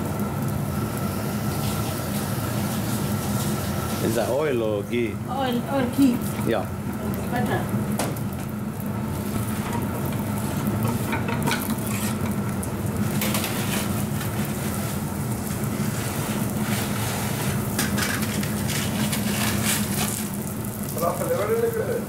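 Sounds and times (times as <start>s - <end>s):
flatbread sizzling on a pan: 0.0s - 22.0s
steady low hum: 0.0s - 22.0s.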